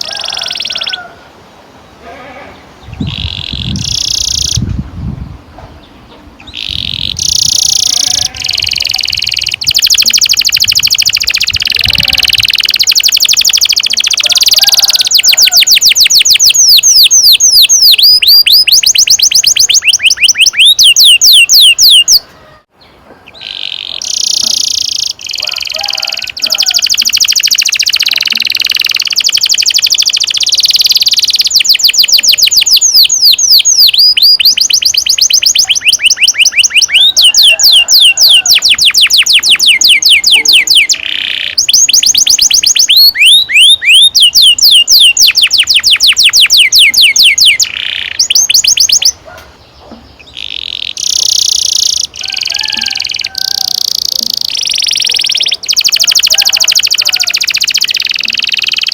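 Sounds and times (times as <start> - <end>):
canary singing trills: 0.0 - 1.2, 1.9 - 5.2, 5.8 - 58.9.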